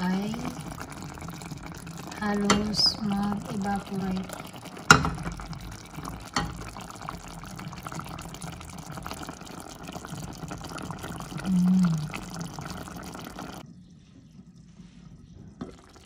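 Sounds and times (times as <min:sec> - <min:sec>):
broth bubbling and crackling in pan: 0:00.0 - 0:16.0.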